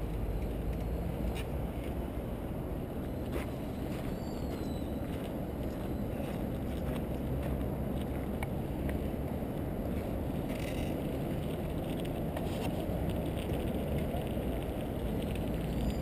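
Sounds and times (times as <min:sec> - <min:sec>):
bicycle tyres rolling on gravel: 0:01.7 - 0:16.0.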